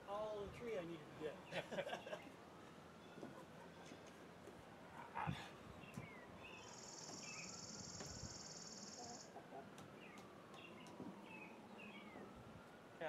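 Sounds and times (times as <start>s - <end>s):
small birds chirping: 0.1s - 12.4s.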